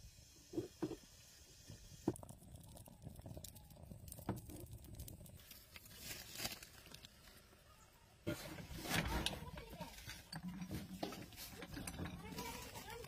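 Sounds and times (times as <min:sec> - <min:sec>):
wood fire crackling: 0:00.2 - 0:13.0
fire popping: 0:00.4 - 0:13.0.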